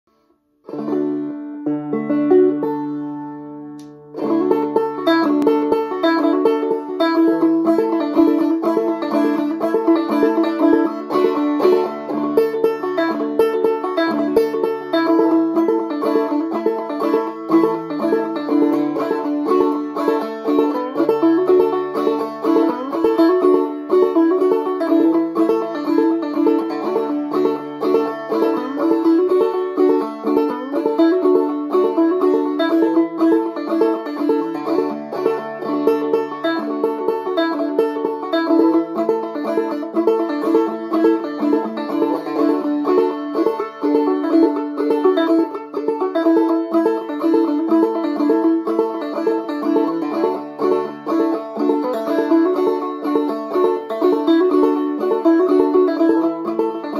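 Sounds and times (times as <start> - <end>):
banjo picking: 0.0 - 56.9.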